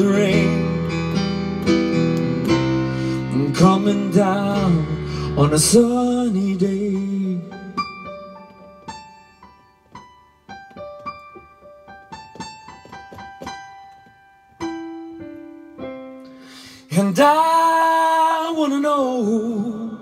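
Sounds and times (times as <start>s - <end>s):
piano playing notes and runs: 0.0s - 16.3s.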